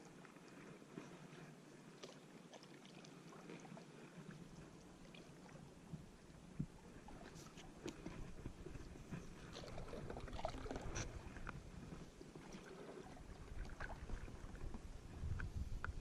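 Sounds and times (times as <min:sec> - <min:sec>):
water moving around a kayak: 0:00.0 - 0:16.0.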